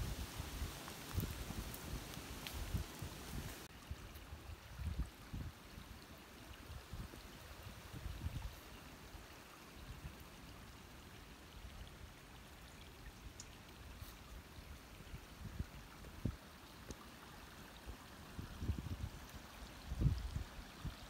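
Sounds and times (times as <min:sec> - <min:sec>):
creek water trickling: 0:00.0 - 0:21.0.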